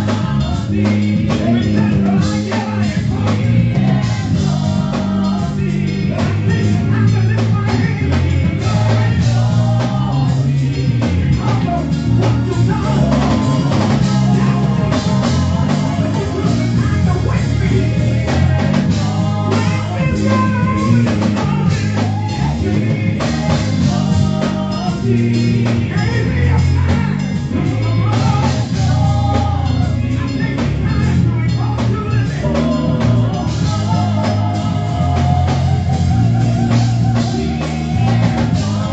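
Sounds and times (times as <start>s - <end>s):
gospel band music: 0.0s - 38.9s
person singing: 0.0s - 38.9s.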